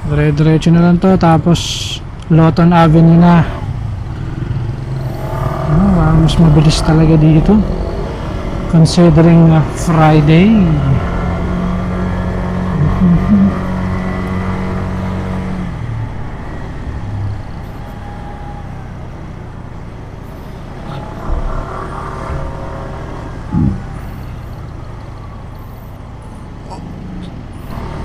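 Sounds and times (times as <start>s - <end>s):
road and traffic rush: 0.0s - 28.0s.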